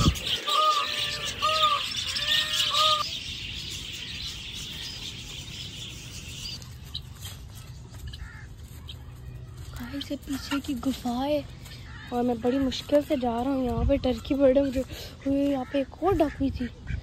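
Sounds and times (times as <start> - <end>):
budgerigars chattering: 0.0 - 17.0.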